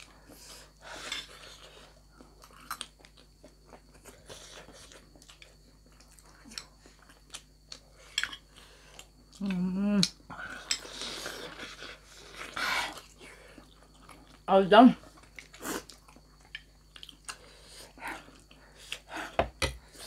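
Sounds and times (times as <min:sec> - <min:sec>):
chewing wet food: 0:00.0 - 0:19.4.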